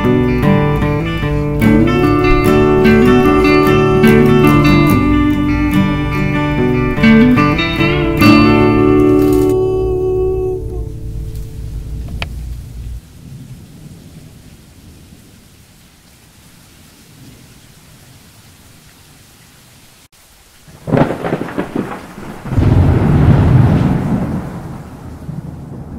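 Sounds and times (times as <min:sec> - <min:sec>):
thunder crackling and rumbling: 0:00.0 - 0:15.8, 0:20.7 - 0:25.9
rain hissing: 0:00.0 - 0:25.9.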